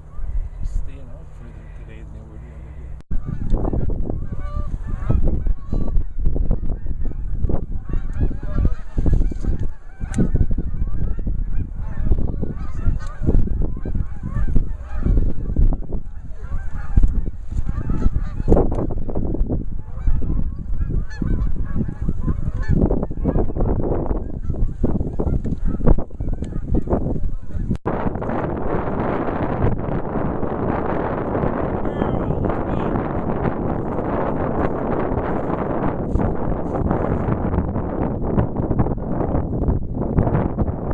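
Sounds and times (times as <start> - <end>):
geese honking: 0.0 - 19.2, 19.8 - 27.8, 31.0 - 36.9.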